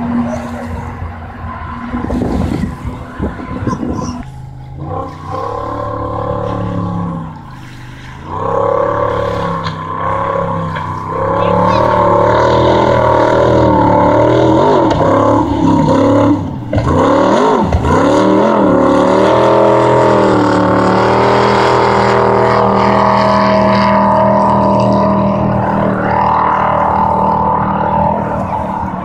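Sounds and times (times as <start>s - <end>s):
boat engine at high revs: 1.9s - 29.0s.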